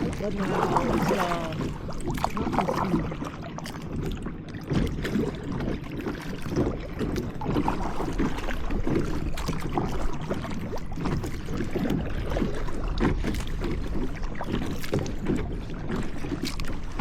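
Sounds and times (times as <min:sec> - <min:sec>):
paddle splashing and dripping: 0:00.0 - 0:17.0
water gurgling against hull: 0:00.0 - 0:17.0.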